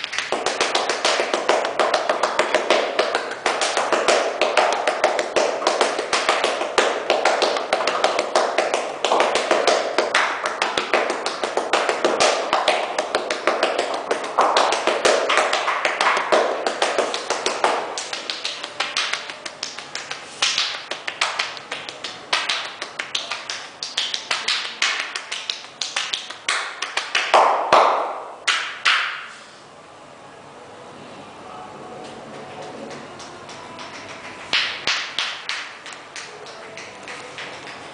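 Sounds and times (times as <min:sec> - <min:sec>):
hands slapping body: 0:00.0 - 0:29.3, 0:32.9 - 0:37.8.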